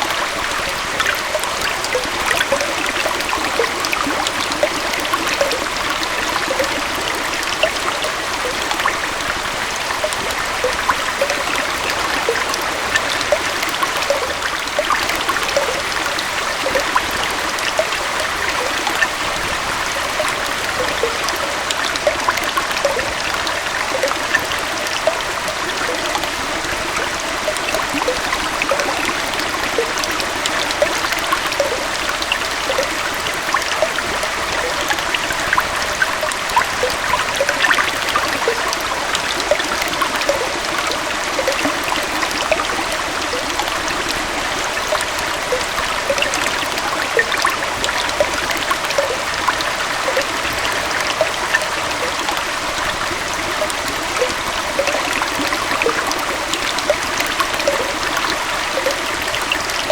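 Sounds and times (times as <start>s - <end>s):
water splashing over rocks: 0.0s - 59.9s.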